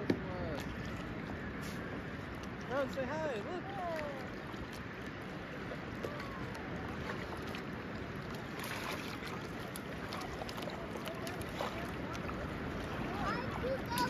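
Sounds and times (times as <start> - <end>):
kayak paddles splashing: 0.0 - 14.0
wind and water noise: 0.0 - 14.0.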